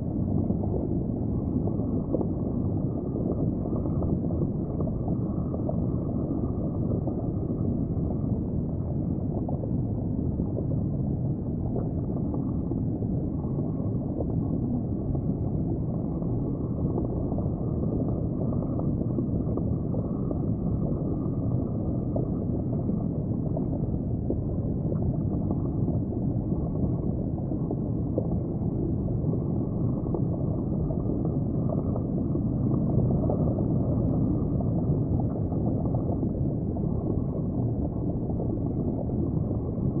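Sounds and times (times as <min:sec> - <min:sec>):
underwater rumble and gurgle: 0:00.0 - 0:40.0.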